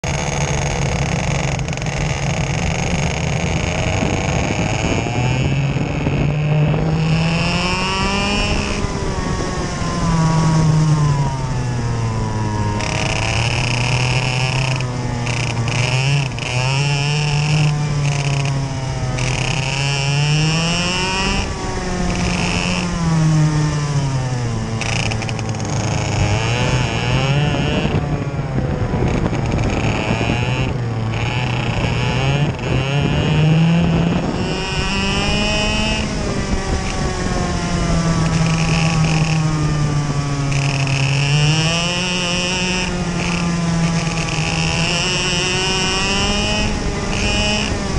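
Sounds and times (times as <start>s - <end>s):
racing kart engine revving: 0.0s - 47.9s.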